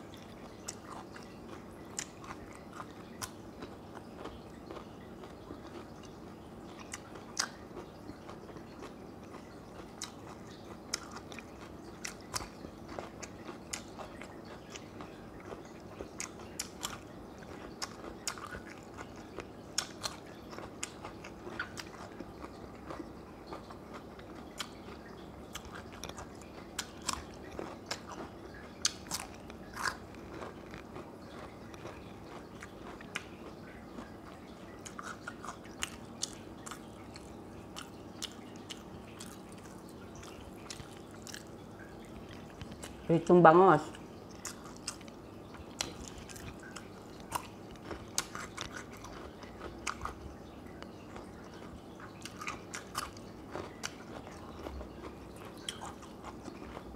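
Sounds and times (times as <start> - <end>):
crunchy chewing: 0.0 - 43.1, 43.9 - 56.9.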